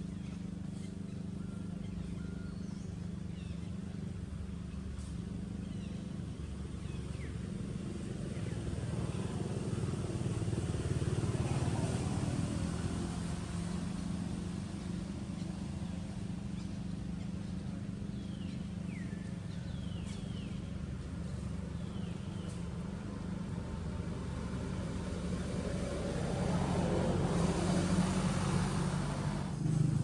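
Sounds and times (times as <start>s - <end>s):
motor engine running: 0.0s - 30.0s.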